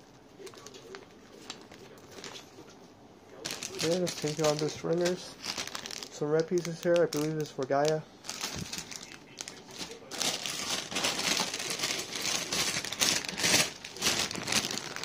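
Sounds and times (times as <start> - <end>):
plastic bags crinkling: 0.4 - 2.5, 3.4 - 15.0.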